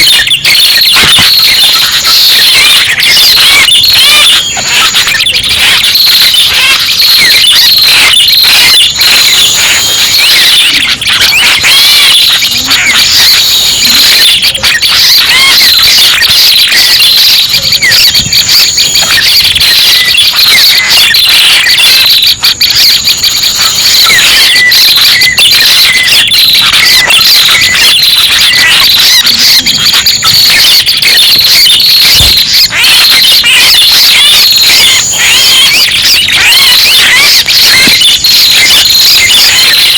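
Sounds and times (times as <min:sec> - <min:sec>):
rapid high-pitched bird chirping: 0:00.0 - 0:39.9.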